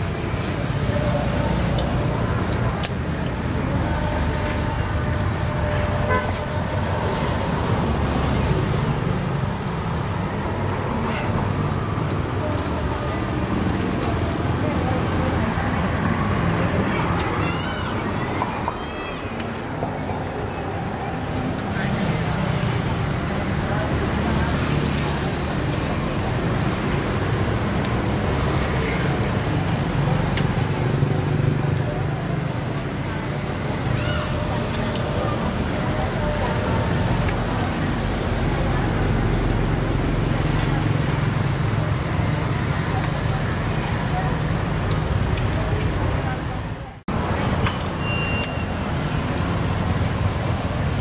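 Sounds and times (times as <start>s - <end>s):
roadside traffic hum: 0.0s - 51.0s
scooters and cars passing: 0.0s - 51.0s.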